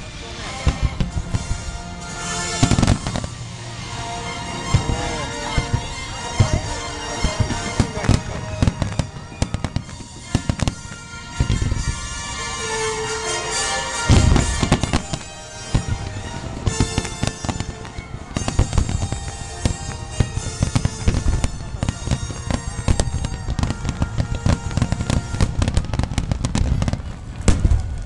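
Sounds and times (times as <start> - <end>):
music from loudspeakers: 0.0 - 26.9
fireworks bursting and crackling: 0.0 - 28.0.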